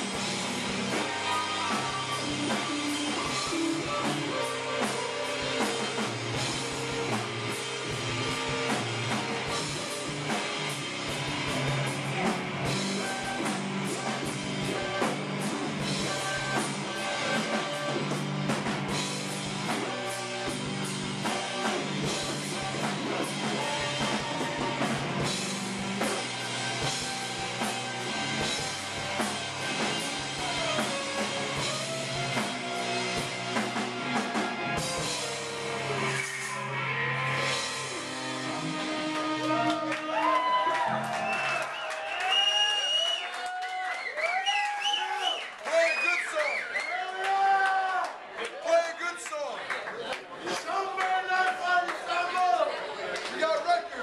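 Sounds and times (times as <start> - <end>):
live rock band playing: 0.0 - 43.5.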